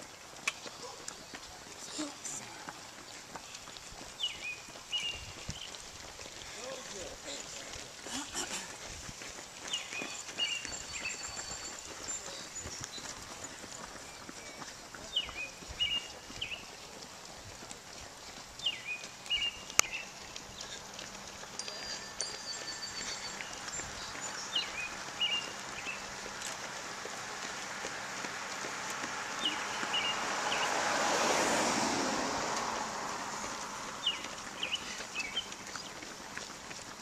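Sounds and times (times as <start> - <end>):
songbird chirping: 0.0 - 37.0
car passing: 1.8 - 37.0.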